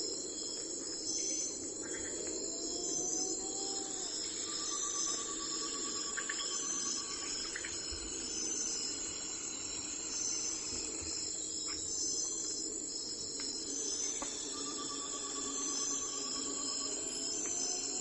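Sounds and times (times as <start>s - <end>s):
insects chirping chorus: 0.0s - 18.0s
rapid pulsed insect trill: 0.0s - 18.0s
sharp insect chirps: 0.2s - 18.0s.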